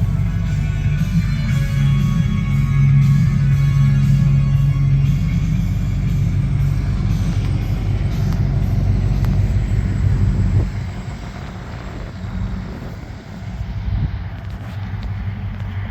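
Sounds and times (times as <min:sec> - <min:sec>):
truck engine rumbling: 0:00.0 - 0:15.9.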